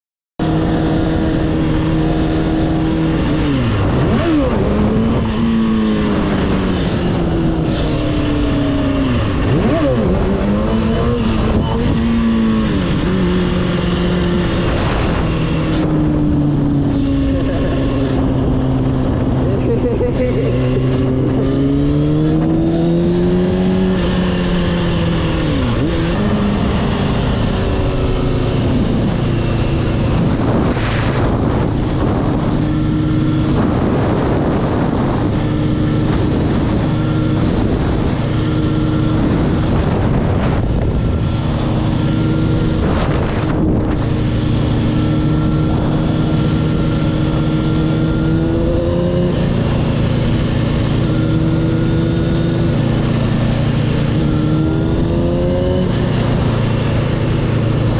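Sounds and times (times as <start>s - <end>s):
motorcycle engine running: 0.4s - 57.9s
wind noise rumble: 0.4s - 57.9s.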